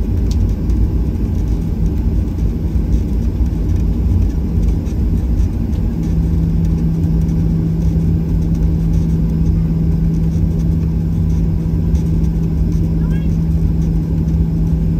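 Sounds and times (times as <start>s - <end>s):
jet engines idling: 0.0s - 14.9s
low rumble of rolling aircraft: 0.0s - 14.9s
steady low hum: 0.0s - 14.9s.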